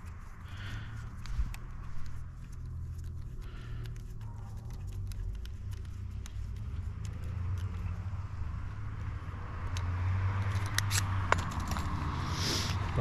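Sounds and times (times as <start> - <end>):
small plastic parts and tools clicking: 0.0 - 8.8, 9.6 - 11.9.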